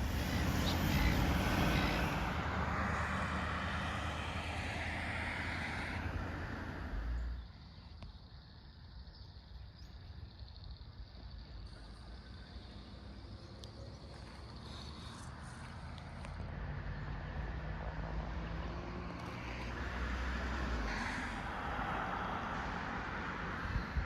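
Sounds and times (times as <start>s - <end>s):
outdoor background: 0.0s - 24.0s.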